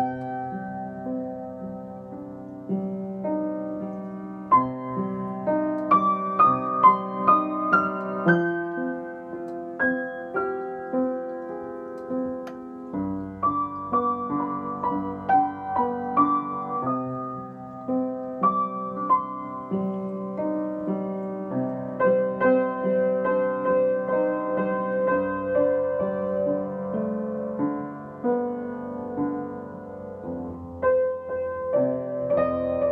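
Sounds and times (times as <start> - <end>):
solo piano chords and melody: 0.0 - 32.9.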